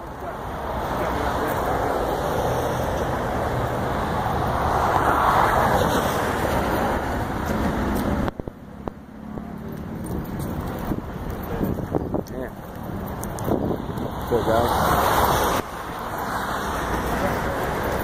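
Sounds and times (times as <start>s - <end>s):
highway traffic rushing: 0.0s - 18.0s
vehicle passing close: 0.5s - 18.0s.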